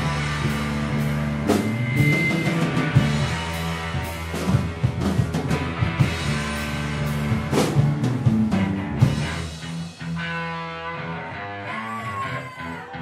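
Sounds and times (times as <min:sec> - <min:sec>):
drum kit: 0:00.0 - 0:11.2
rock band playing loudly: 0:00.0 - 0:13.0.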